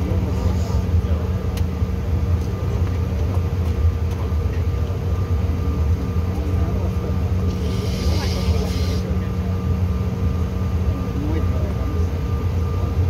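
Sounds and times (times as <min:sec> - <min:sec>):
aircraft cabin rumble: 0:00.0 - 0:13.0
jet engines humming: 0:00.0 - 0:13.0.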